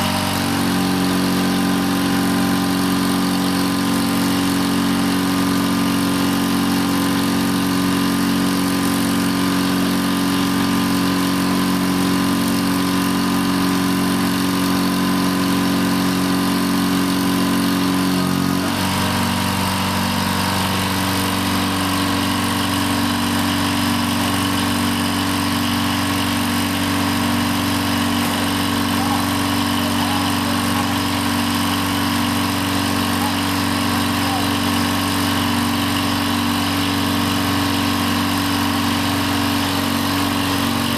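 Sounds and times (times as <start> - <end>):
crane engine running: 0.0 - 40.9.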